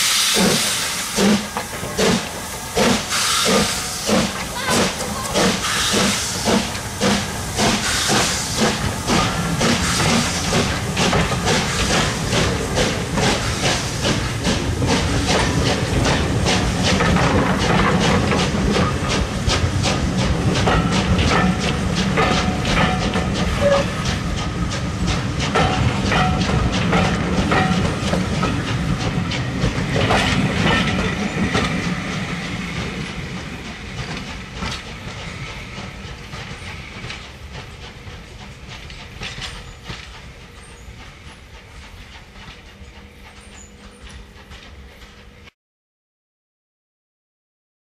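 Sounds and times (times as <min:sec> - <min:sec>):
steam exhaust beating: 0:00.0 - 0:45.5
steam locomotive hissing: 0:00.0 - 0:45.5
train wheels clicking on rails: 0:00.0 - 0:45.5.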